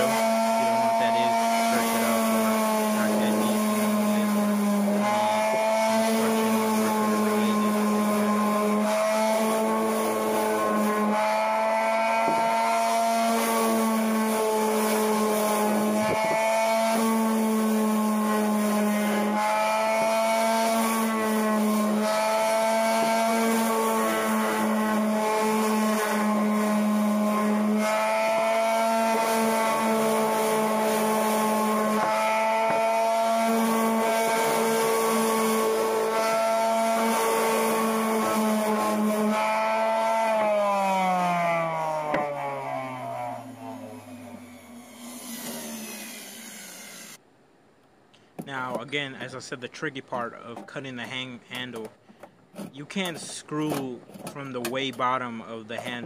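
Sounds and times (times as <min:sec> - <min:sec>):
orbital sander on wood: 0:00.0 - 0:47.2.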